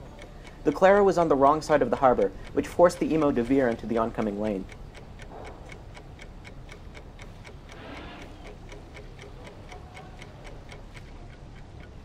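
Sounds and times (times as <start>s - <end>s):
clock ticking: 0.0s - 12.0s.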